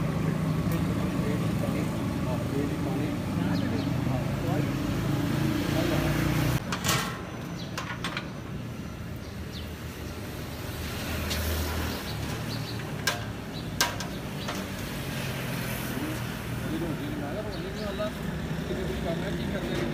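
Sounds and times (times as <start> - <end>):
low traffic rumble: 0.0 - 19.9.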